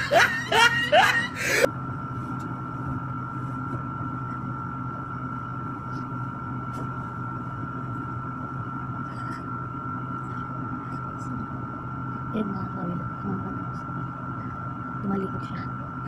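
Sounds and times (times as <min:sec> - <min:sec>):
electric fan humming: 0:00.0 - 0:16.0
thin high whine: 0:00.0 - 0:16.0.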